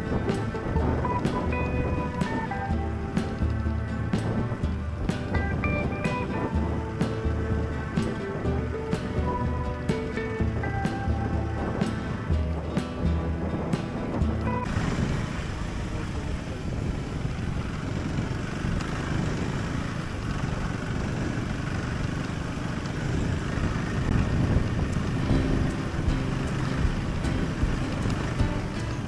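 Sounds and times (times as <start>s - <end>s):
motorcycle engine running: 0.0s - 29.0s
road and wind noise: 0.0s - 29.0s.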